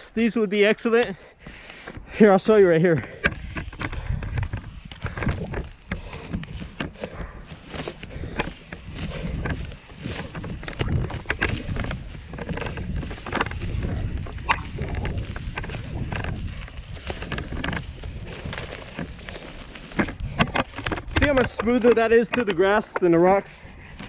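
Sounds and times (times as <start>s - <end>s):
skates rolling on grass: 0.1s - 24.0s
irregular clicks and knocks: 3.0s - 23.2s.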